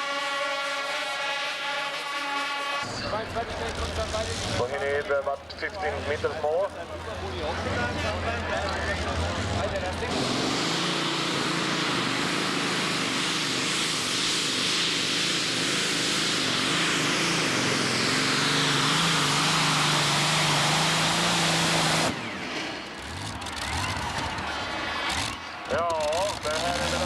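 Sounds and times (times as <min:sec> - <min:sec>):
tractor engines roaring: 0:00.0 - 0:27.0.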